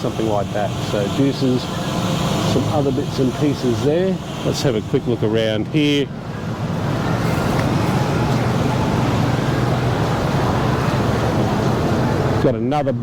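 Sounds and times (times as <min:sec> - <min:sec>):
low motor hum: 0:00.0 - 0:12.4
even rushing noise: 0:00.0 - 0:12.6.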